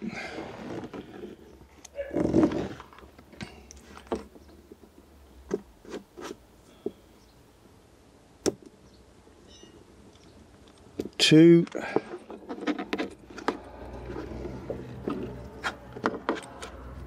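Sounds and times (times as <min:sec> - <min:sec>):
wires rubbing: 0:00.0 - 0:06.9, 0:10.2 - 0:17.0.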